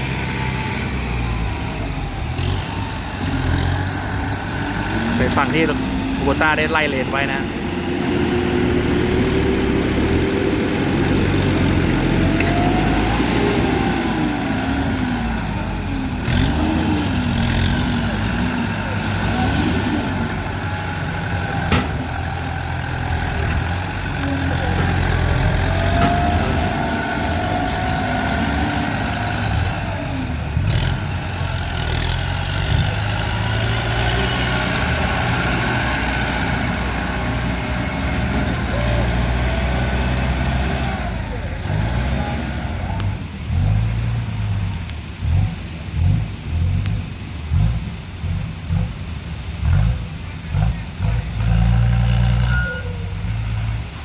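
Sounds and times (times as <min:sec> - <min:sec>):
tractor diesel engine working: 0:00.0 - 0:54.0.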